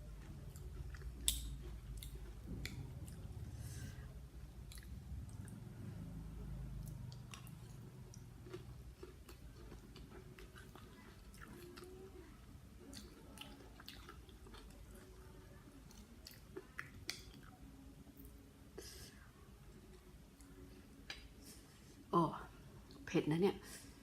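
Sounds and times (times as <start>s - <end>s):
person chewing food: 0.0s - 5.6s, 6.5s - 21.4s.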